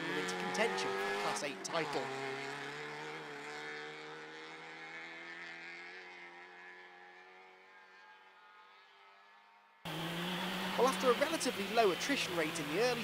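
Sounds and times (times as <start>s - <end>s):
racing car engine running: 0.0s - 7.7s, 9.9s - 13.0s.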